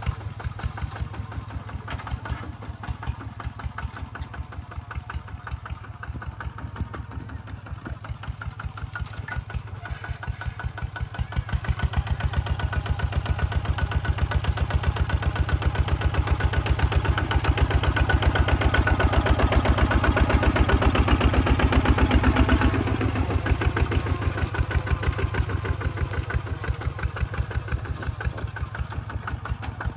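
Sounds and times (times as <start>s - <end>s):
diesel engine chugging: 0.0s - 29.9s.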